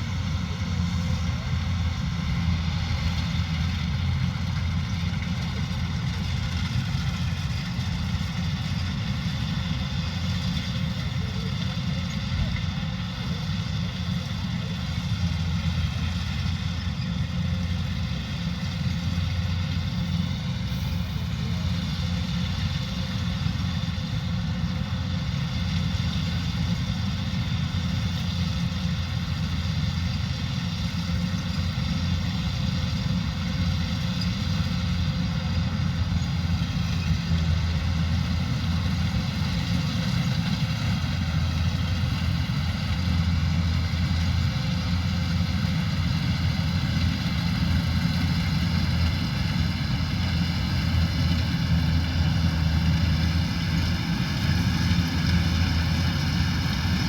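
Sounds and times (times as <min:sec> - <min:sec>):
diesel engine droning: 0:00.0 - 0:57.0
machinery whine: 0:00.0 - 0:57.0.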